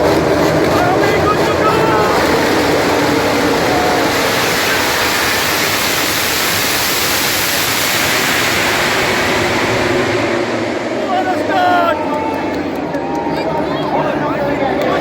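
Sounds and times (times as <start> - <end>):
racing motorcycles pulling away: 0.0 - 12.0.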